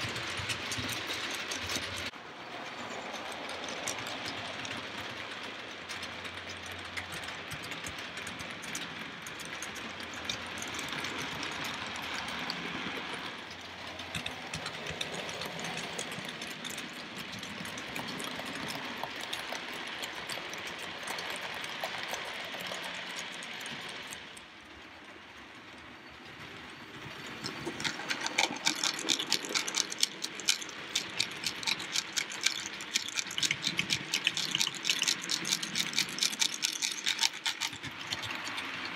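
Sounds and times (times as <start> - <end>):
model train whirring rumble: 0.0 - 38.9
wagon wheels clicking on rails: 0.0 - 38.9.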